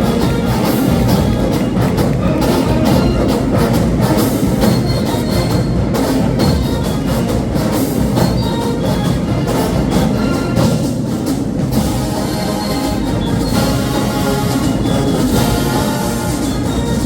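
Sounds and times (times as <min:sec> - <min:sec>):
drumline beat: 0:00.0 - 0:17.0
marching band brass: 0:00.0 - 0:17.0.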